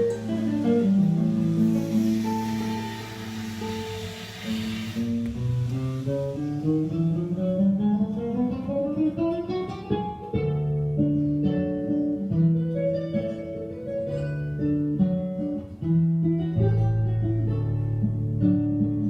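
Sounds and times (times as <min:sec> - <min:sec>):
plucked acoustic guitar: 0:00.0 - 0:19.0.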